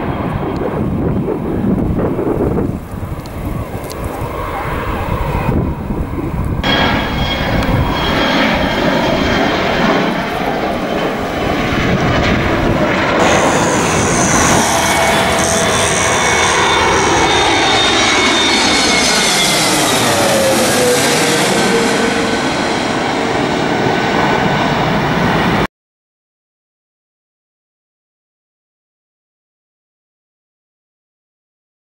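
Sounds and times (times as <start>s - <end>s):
jet airliner passing overhead: 0.0s - 25.7s
jet engine rumble: 0.0s - 25.7s.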